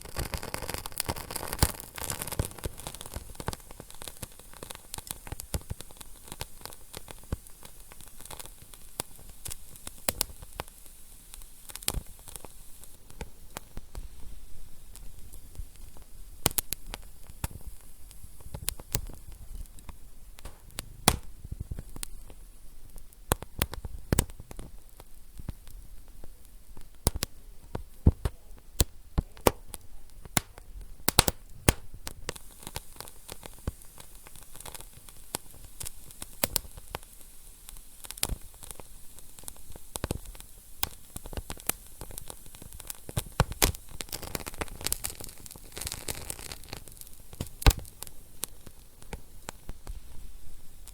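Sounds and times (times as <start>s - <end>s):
fire low hiss: 0.0s - 50.9s
wood fire crackling and popping: 0.0s - 50.9s.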